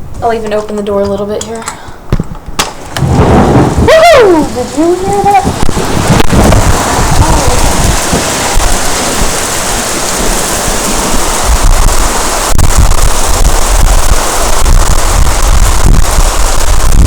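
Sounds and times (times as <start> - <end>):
wind buffeting microphone: 0.0 - 17.0
heavy rain pouring: 2.5 - 17.0.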